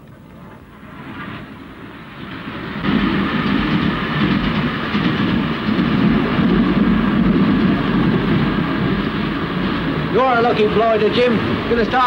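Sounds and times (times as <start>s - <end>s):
passenger train running past: 0.0s - 12.0s.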